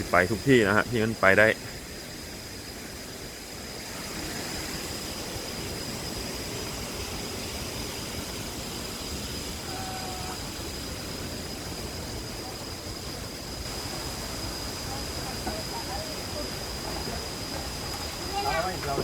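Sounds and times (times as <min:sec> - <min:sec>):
thin high whine: 0:00.0 - 0:19.0.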